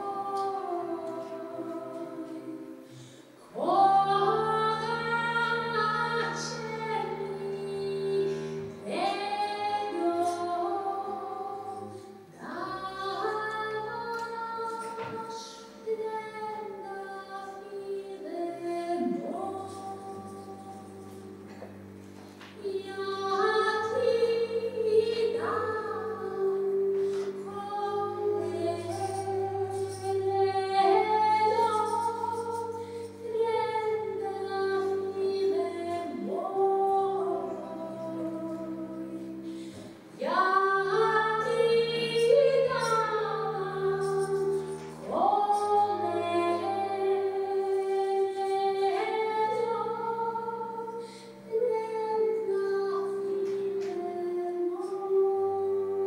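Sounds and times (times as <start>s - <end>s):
double bass notes: 0.0s - 56.0s
violin: 0.0s - 56.0s
woman singing: 0.0s - 56.0s.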